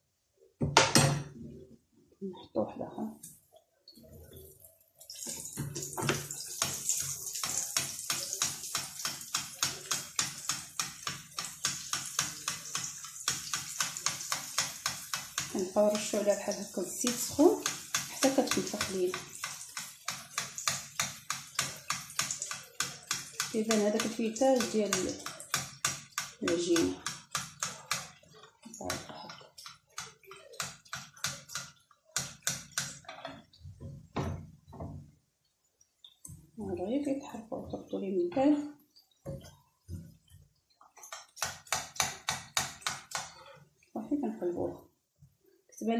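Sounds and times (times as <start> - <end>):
dough sizzling in hot oil: 4.4 - 38.0, 38.7 - 45.9.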